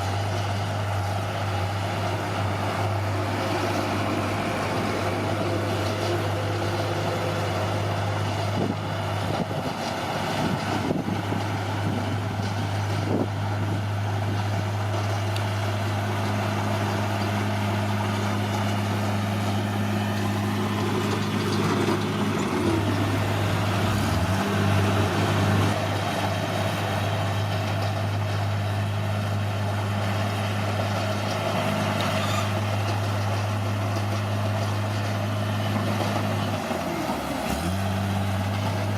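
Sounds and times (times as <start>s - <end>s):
bulldozer diesel engine droning: 0.0s - 38.9s.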